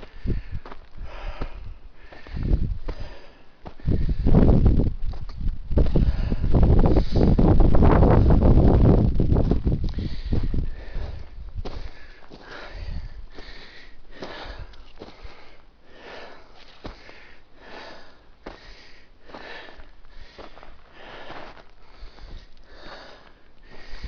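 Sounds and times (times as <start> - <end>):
person breathing heavily: 0.0 - 4.8, 5.8 - 8.6, 9.8 - 24.0.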